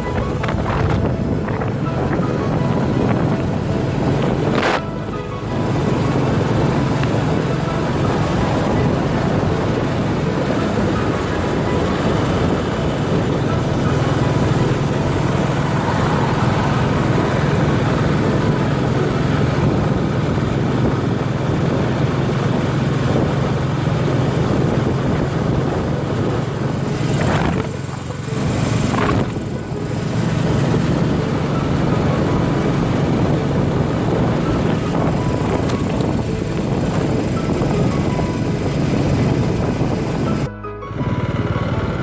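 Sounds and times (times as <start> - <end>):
motorcycle engine running: 0.0 - 42.0
rushing noise: 0.0 - 42.0.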